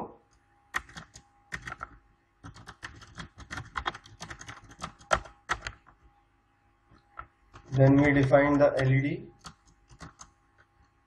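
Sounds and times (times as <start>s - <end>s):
keyboard typing clicks: 0.7s - 6.0s, 7.0s - 10.7s.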